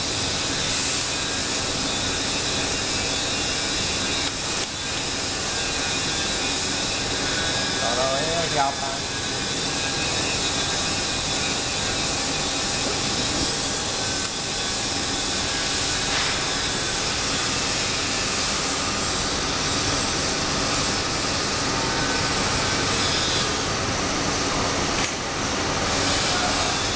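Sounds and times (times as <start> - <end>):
machine shop hum and hiss: 0.0 - 26.9.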